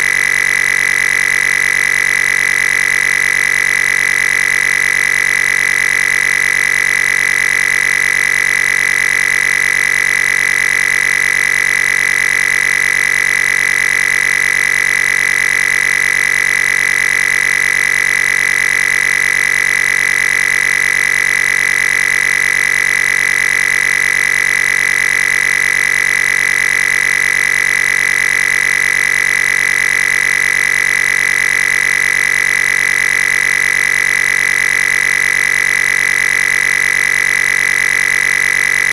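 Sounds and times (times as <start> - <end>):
electronic buzz with high tone: 0.0 - 38.9.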